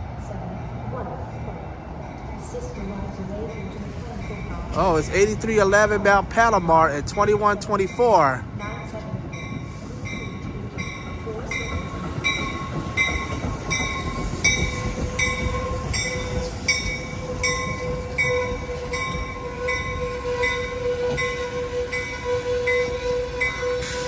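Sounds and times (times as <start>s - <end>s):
low rumble of train cars: 0.0s - 24.0s
train warning bell ringing: 1.5s - 24.0s.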